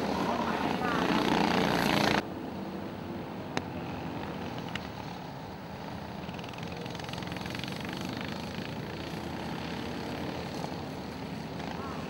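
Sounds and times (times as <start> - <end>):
go-kart engines buzzing: 0.0 - 12.0.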